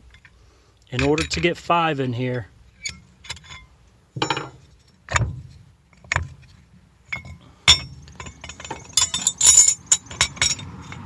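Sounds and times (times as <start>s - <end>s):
metal clutch plates clinking: 0.0s - 1.7s, 2.3s - 11.0s.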